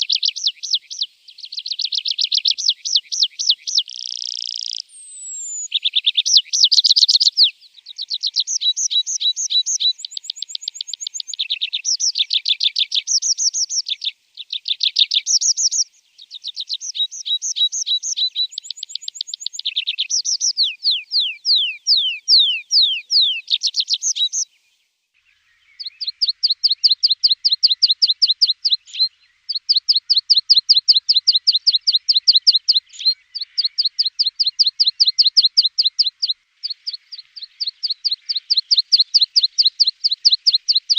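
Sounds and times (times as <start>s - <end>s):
lark singing trills: 0.0s - 24.6s, 25.2s - 40.9s.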